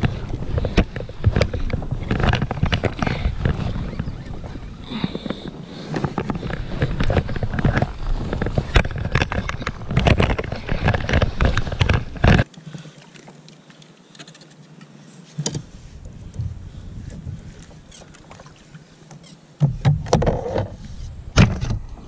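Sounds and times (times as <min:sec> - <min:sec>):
knocking and rustling of fishing reel: 0:00.0 - 0:22.0
quiet water wash: 0:00.0 - 0:22.0.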